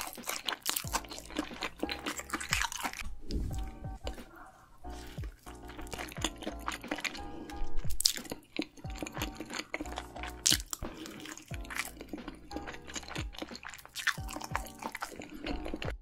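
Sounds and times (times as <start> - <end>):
background music: 0.0 - 16.0
mouth clicks and smacks: 0.0 - 16.0
person chewing food: 0.0 - 16.0.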